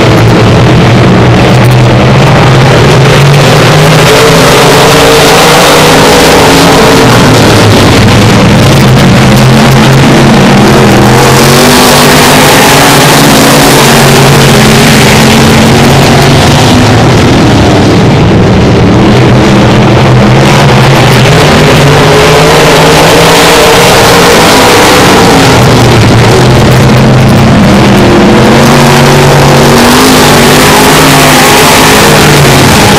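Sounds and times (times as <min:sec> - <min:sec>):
cars passing close by: 0:00.0 - 0:32.9
racing car engines droning: 0:00.0 - 0:32.9.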